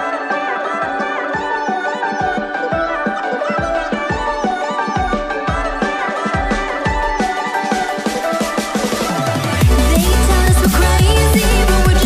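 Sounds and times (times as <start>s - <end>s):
melody over steady beat: 0.0s - 12.0s.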